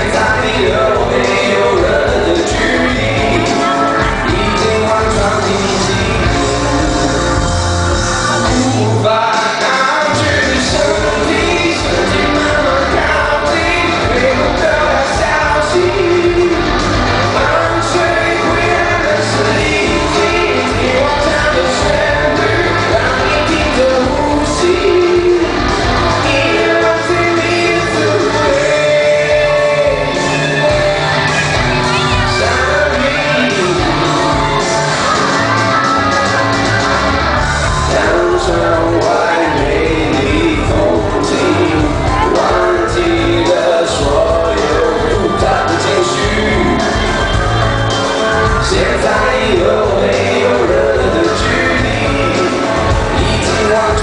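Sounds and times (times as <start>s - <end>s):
live pop-rock band playing: 0.0s - 54.0s
man singing lead vocal: 0.0s - 54.0s.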